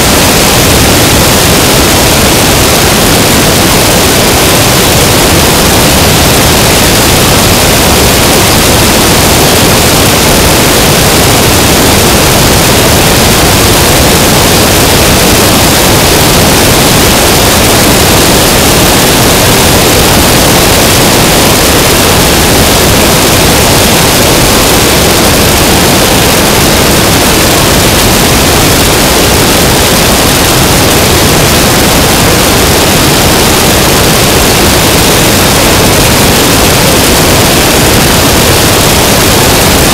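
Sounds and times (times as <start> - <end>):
wind rush and aircraft engine: 0.0 - 39.9.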